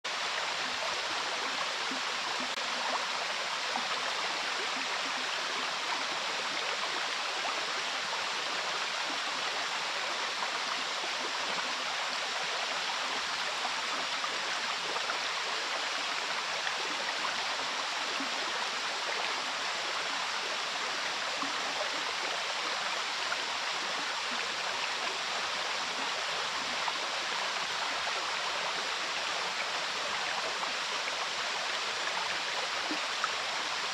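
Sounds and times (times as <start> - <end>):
waterfall: 0.0 - 33.9.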